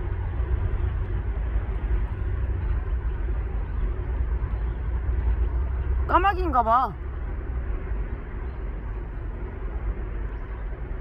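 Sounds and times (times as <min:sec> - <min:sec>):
faint steady hum: 0:00.0 - 0:11.0
traffic rumble: 0:00.0 - 0:11.0.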